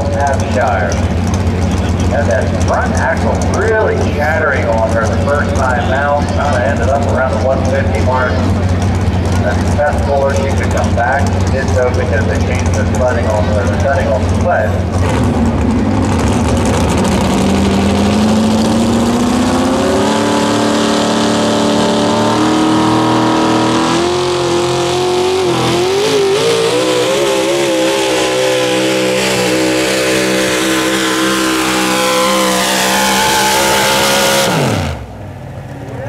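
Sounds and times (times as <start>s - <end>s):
truck engine at full power: 0.0s - 36.0s.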